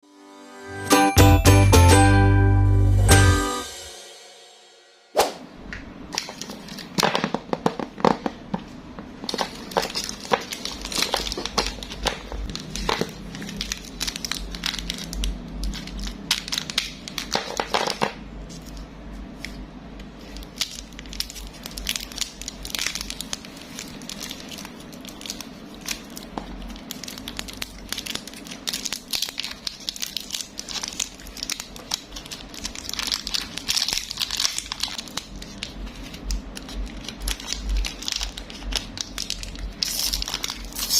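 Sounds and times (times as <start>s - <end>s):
plastic packaging crinkling: 6.2s - 40.9s.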